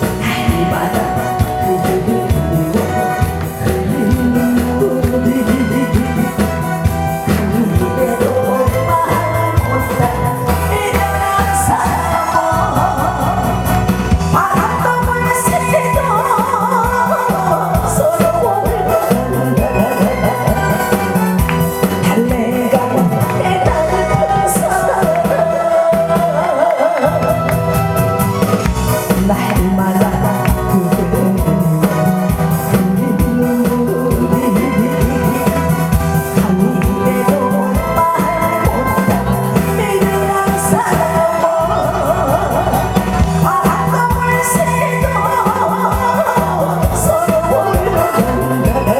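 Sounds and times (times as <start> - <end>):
music with steady drum beat: 0.0 - 48.9
person singing with vibrato: 0.0 - 48.9.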